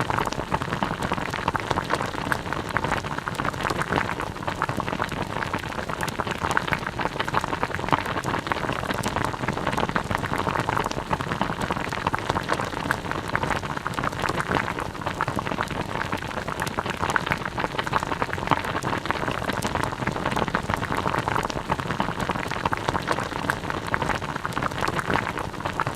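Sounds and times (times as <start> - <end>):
pot of liquid boiling: 0.0 - 25.9.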